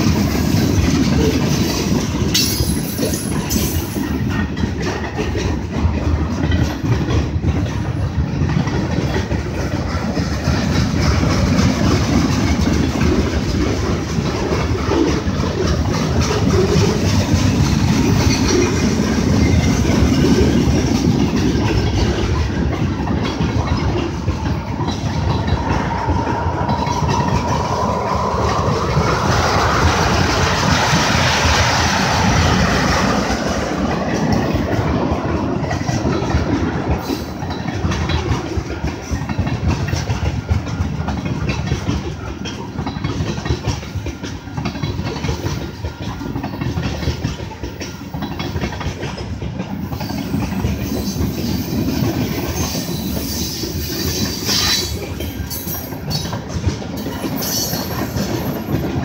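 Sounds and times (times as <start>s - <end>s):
train wheels clacking over rail joints: 0.0s - 59.0s.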